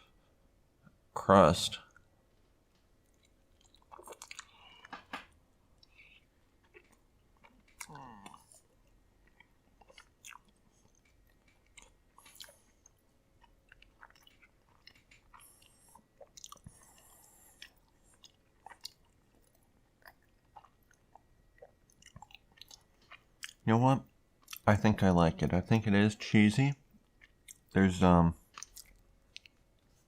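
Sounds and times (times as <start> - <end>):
chewing soft food: 1.8 - 24.7, 26.7 - 30.0.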